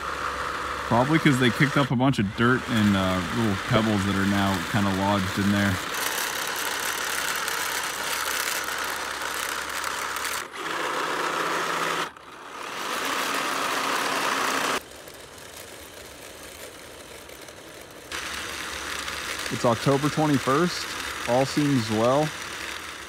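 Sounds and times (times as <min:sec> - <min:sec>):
gearboxes running with weird noises: 0:00.0 - 0:23.0.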